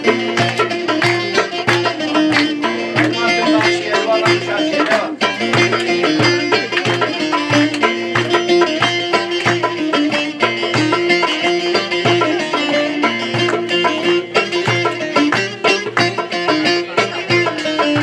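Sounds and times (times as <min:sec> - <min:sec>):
folk music: 0:00.0 - 0:18.0
steady drum beat: 0:00.0 - 0:18.0.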